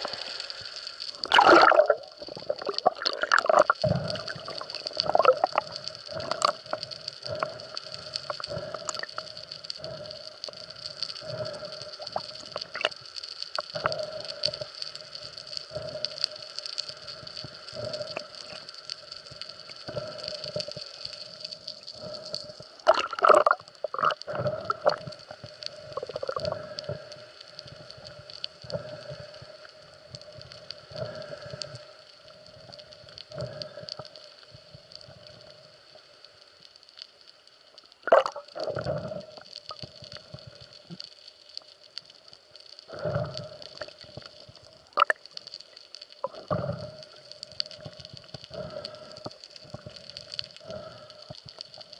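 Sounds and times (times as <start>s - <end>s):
water gurgling: 0.0s - 31.7s, 38.0s - 42.0s, 42.8s - 51.9s
steady high whine underwater: 0.0s - 51.9s.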